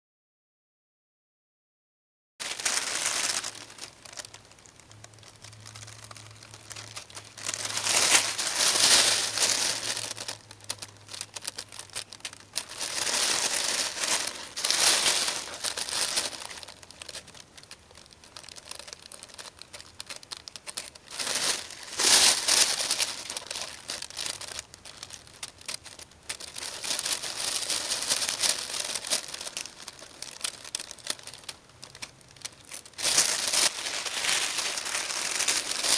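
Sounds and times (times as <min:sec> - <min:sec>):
paper crinkling and rustling: 0:02.4 - 0:35.9.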